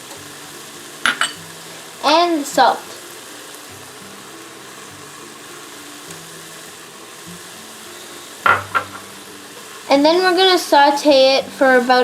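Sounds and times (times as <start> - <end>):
chicken and onion sizzling in butter: 0.0 - 12.0.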